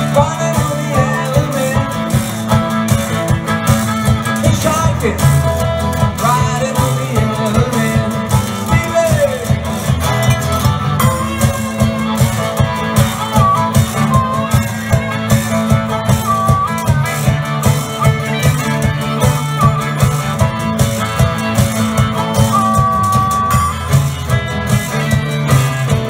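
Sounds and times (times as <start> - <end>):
bending guitar lead line: 0.0 - 26.0
electric and acoustic guitars: 0.0 - 26.0
steady drum beat: 0.0 - 26.0.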